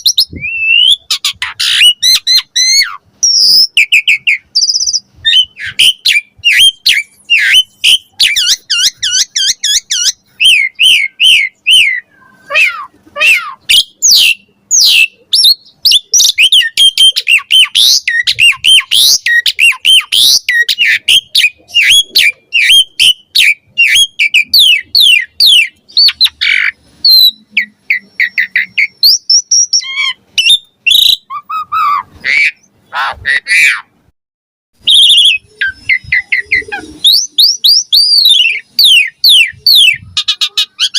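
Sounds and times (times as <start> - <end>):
bird singing whistles and squawks: 0.0 - 33.9, 34.8 - 40.9.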